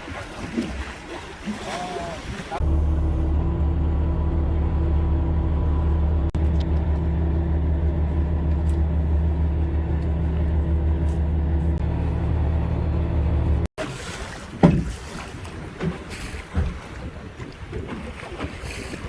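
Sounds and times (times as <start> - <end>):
boat engine humming: 1.0 - 19.0.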